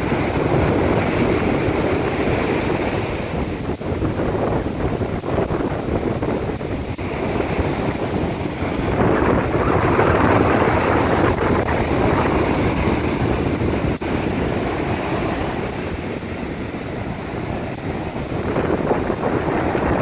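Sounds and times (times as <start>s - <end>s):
ocean surf washing onto beach: 0.0s - 20.0s
wind rumbling on microphone: 0.0s - 20.0s.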